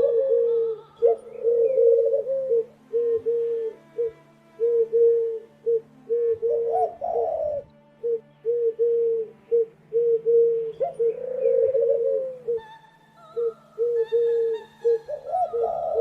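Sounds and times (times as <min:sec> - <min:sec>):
doves cooing: 0:00.0 - 0:12.7, 0:13.4 - 0:16.0.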